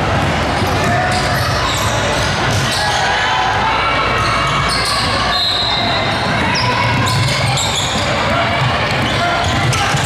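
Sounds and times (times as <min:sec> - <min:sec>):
murmur of voices: 0:00.0 - 0:10.0.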